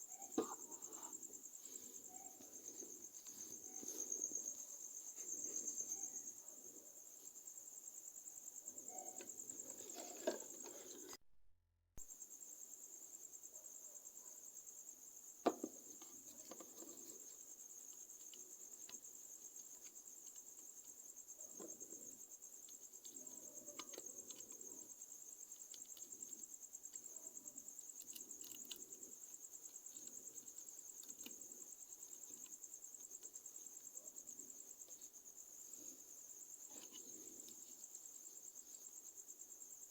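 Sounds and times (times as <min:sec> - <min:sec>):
crickets trilling: 0:00.0 - 0:11.2, 0:12.0 - 0:39.9.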